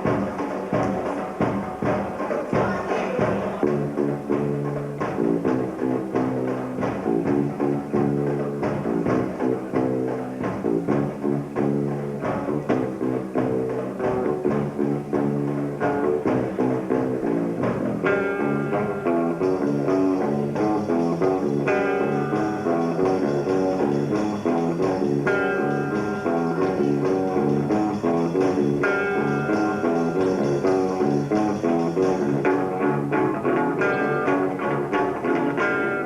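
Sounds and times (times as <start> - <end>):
instrumental rock band: 0.0 - 36.0
sustained guitar melody: 0.0 - 36.0.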